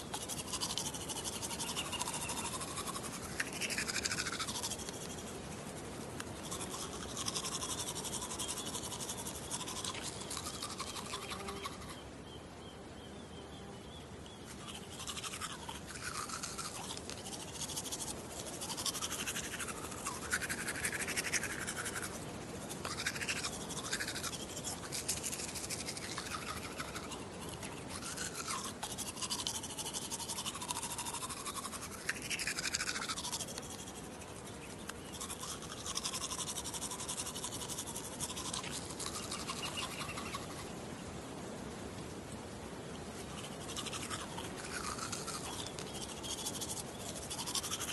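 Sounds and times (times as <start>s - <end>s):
toothbrush scrubbing teeth: 0.0s - 12.0s, 14.5s - 40.7s, 43.2s - 47.9s.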